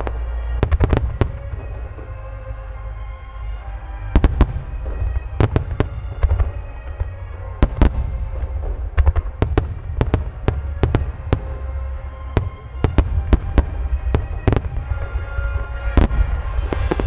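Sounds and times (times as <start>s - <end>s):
fireworks bursting: 0.0s - 17.0s
low rumble: 0.0s - 17.0s
music: 0.0s - 17.0s.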